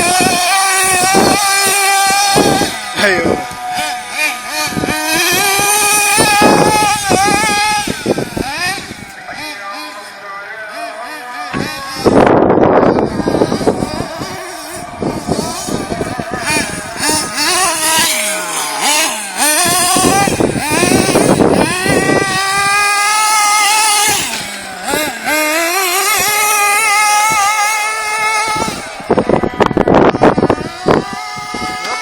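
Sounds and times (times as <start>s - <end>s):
rc car engine revving: 0.0s - 32.0s.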